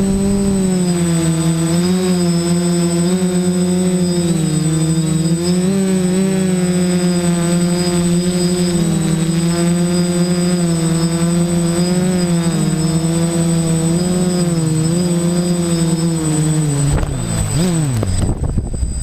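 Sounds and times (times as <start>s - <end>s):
drone propellers humming: 0.0s - 19.0s
high-pitched whine: 0.0s - 19.0s.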